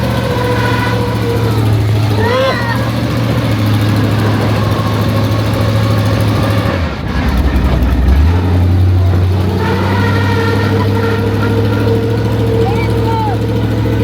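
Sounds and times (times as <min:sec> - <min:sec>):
monster truck engine under load: 0:00.0 - 0:14.0.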